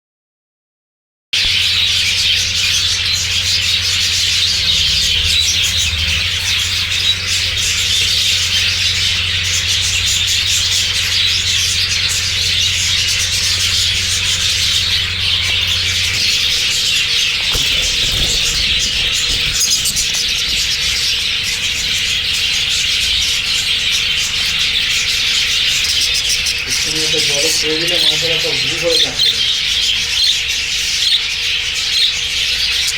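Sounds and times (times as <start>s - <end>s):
low steady hum: 1.4s - 30.8s
budgerigars chattering and squawking: 1.4s - 32.9s.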